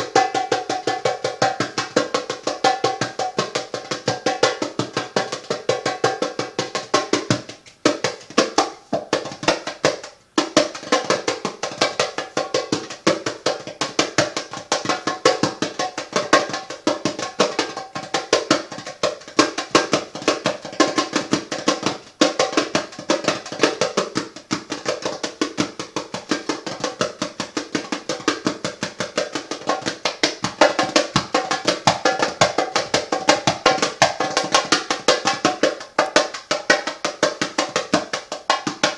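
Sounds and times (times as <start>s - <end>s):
hand drum strokes: 0.0s - 38.9s.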